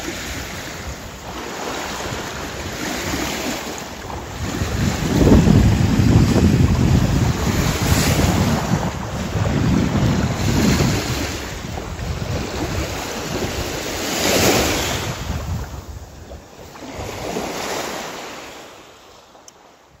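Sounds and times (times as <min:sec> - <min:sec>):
small waves washing on sand: 0:00.0 - 0:20.0.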